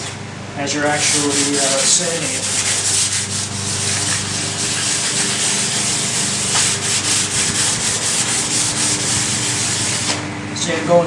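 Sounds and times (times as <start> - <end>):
sandpaper rubbing in circles: 0.8 - 10.2.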